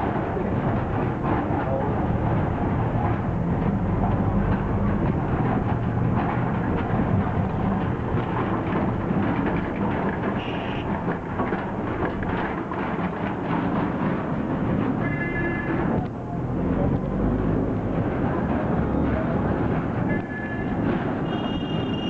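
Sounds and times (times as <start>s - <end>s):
auto-rickshaw engine running: 0.0s - 22.0s
cab rattling on bumpy road: 0.0s - 22.0s.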